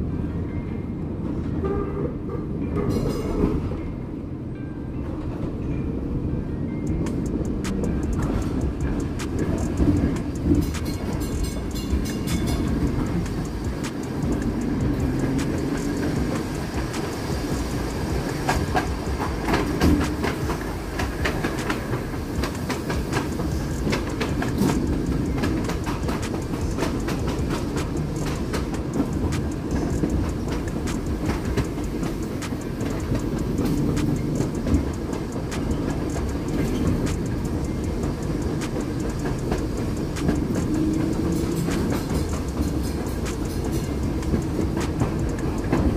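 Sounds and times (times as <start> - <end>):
steel wheels rumbling on rail: 0.0 - 45.9
track clicks and clacks: 6.8 - 45.9.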